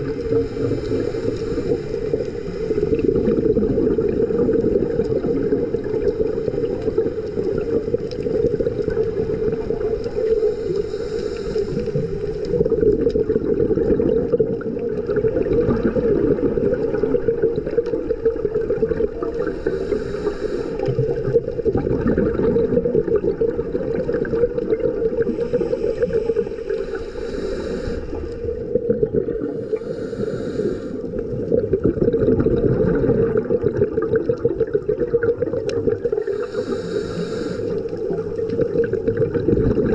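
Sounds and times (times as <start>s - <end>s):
muffled underwater rumble: 0.0s - 39.9s
scuba exhaust bubbles: 0.0s - 39.9s.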